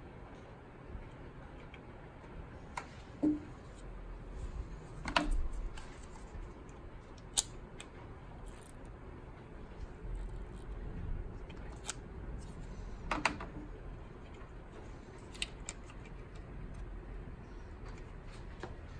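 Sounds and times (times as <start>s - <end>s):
low steady hum: 0.0s - 18.9s.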